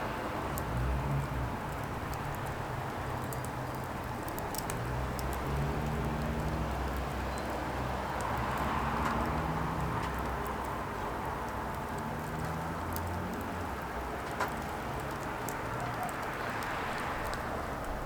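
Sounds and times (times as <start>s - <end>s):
firewood crackling and popping: 0.4s - 18.0s.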